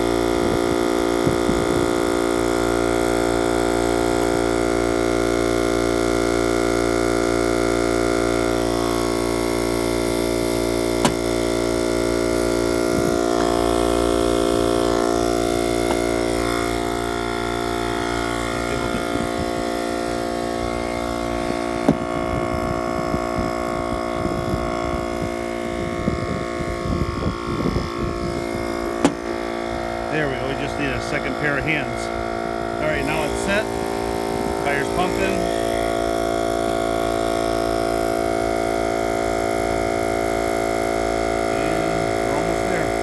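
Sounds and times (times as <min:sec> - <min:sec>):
tire inflator compressor droning: 0:00.0 - 0:43.0.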